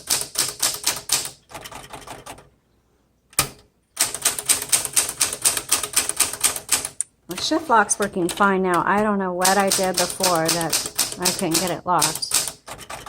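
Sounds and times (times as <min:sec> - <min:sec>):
manual typewriter typing: 0:00.0 - 0:02.5, 0:03.4 - 0:13.0.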